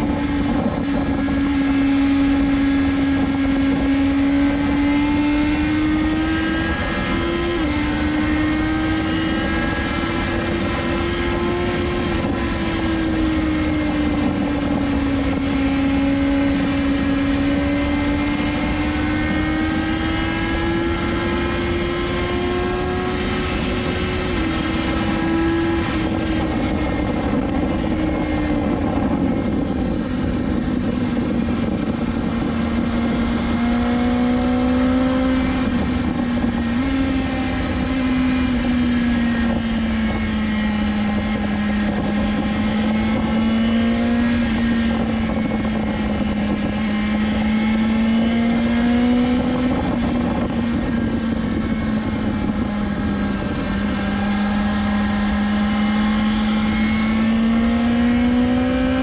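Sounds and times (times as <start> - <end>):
motorcycle engine cruising: 0.0 - 59.0
wind noise rushing: 0.0 - 59.0.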